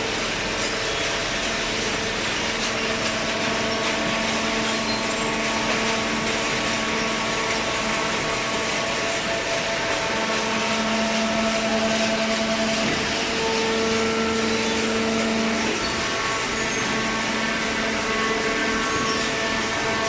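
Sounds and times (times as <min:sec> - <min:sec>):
baler machine drone: 0:00.0 - 0:20.0.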